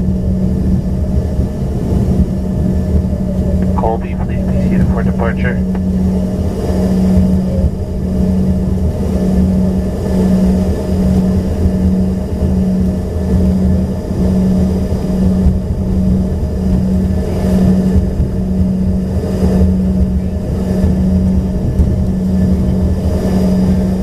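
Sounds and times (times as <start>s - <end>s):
jet cabin droning hum: 0.0s - 24.0s.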